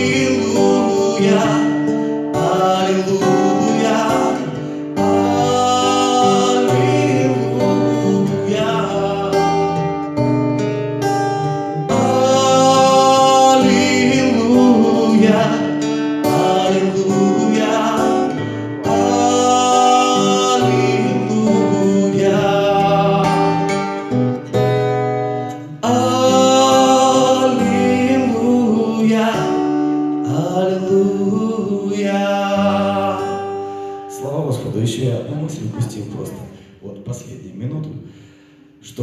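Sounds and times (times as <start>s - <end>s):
person singing: 0.0s - 24.5s, 25.4s - 34.4s
strummed acoustic guitar: 0.0s - 37.3s.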